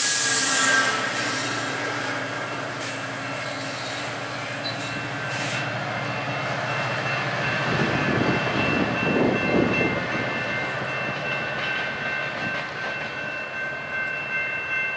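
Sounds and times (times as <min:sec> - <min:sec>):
diesel locomotive engine: 0:00.0 - 0:14.9
train wheels rolling on rails: 0:00.0 - 0:14.9.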